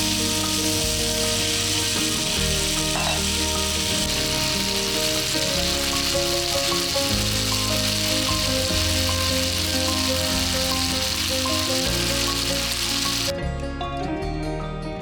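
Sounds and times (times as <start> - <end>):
food sizzling in a pan: 0.0 - 13.3
background music with bass line: 0.0 - 15.0.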